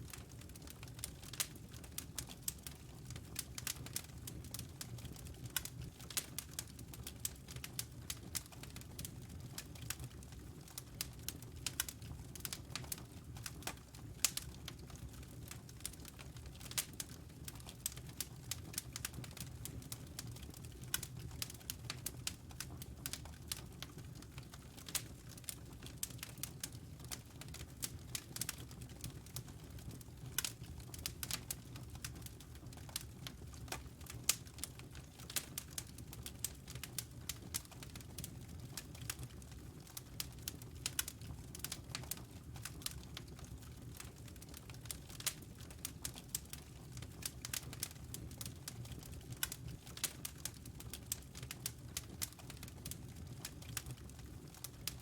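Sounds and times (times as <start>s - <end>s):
low rumble of flames: 0.1s - 55.0s.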